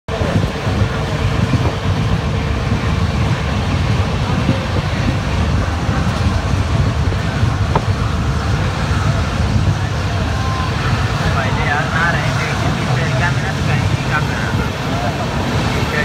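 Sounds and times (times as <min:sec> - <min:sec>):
faint steady whine: 0:00.1 - 0:16.0
train wheels rumbling on rail: 0:00.1 - 0:16.0.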